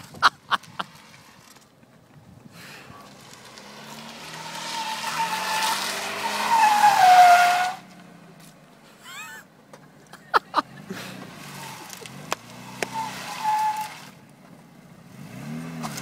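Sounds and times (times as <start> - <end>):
trays scraping and squealing on asphalt: 0.0 - 16.0.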